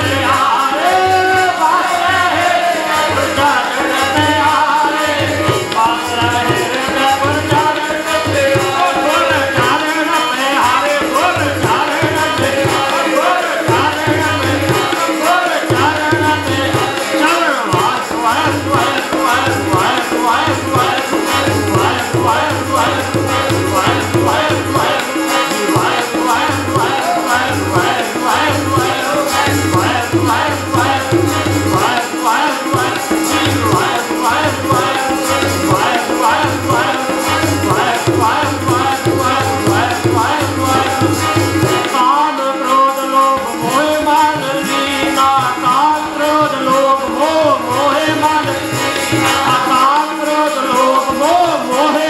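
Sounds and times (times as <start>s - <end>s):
harmonium melody: 0.0s - 52.0s
tabla drumming: 0.0s - 52.0s.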